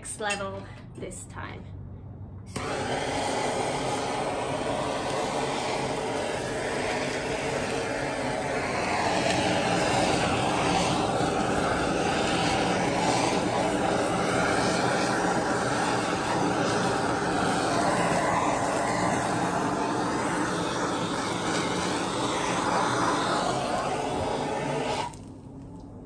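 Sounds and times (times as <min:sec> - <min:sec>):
propane torch hissing: 0:02.5 - 0:25.4.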